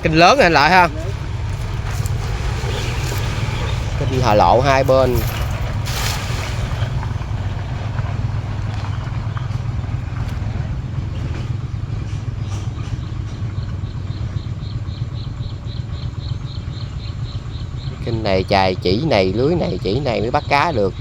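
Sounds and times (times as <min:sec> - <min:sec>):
insect chirping: 0:00.0 - 0:10.6, 0:12.0 - 0:21.0
small engine droning: 0:00.0 - 0:21.0.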